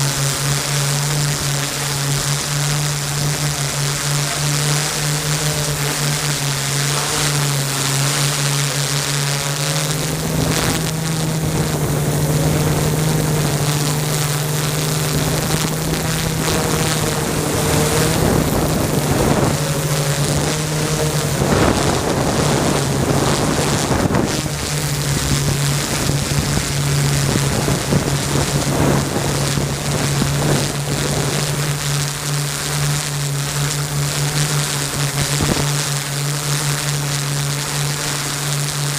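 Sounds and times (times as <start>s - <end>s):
wind rushing over microphone: 0.0s - 36.0s
drone propellers humming: 0.0s - 38.9s.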